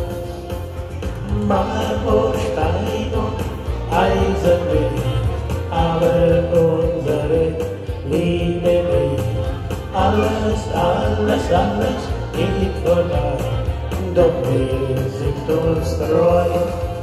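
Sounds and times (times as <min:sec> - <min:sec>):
keyboard playing schlager music: 0:00.0 - 0:17.0.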